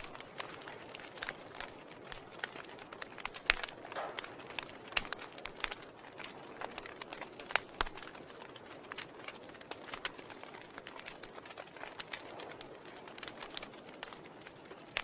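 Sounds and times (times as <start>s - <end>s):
fire hissing: 0.0s - 15.0s
wood fire crackling and popping: 0.0s - 15.0s.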